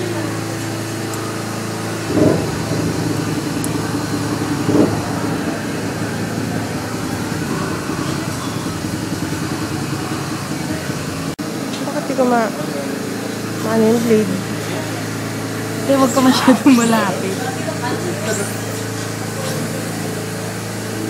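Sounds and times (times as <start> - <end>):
suction unit motor hum: 0.0 - 21.0.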